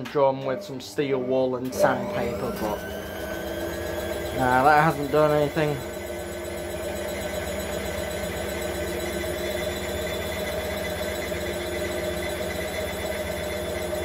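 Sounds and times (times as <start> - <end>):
washing machine spinning: 0.1 - 14.0.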